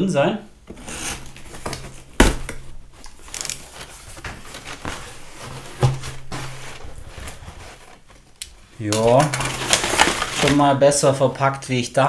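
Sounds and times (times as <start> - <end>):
cardboard and paper rustling: 0.7 - 11.3.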